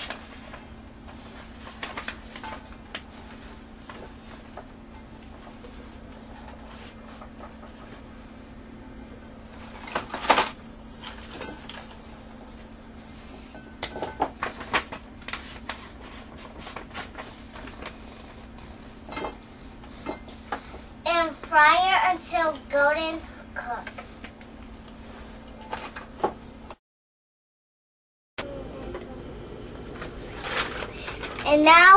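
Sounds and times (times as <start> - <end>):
steady low hum: 0.0 - 26.8, 28.4 - 31.9.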